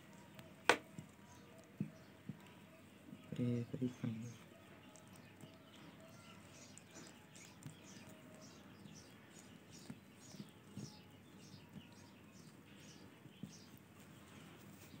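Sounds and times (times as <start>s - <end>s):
parakeet chicks chirping: 0.0s - 15.0s.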